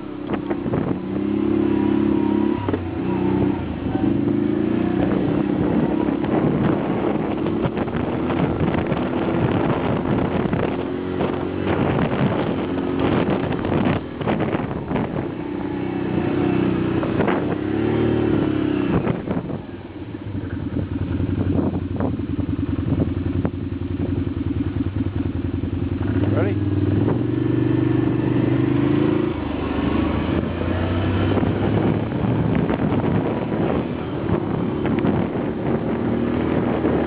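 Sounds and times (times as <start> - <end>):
off-road vehicle engine revving: 0.0 - 37.0.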